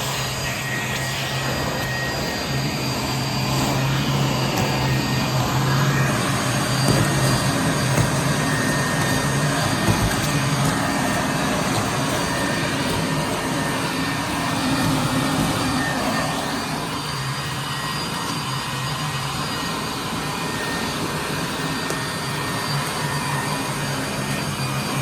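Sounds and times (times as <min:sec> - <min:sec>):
leaf blower whirring in vacuum mode: 0:00.0 - 0:25.0.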